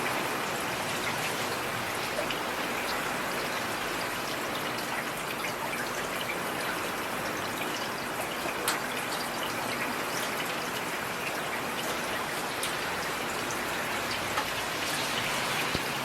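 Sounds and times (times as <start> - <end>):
heavy rain falling: 0.0 - 16.0
raindrops ticking on a surface: 0.0 - 16.0.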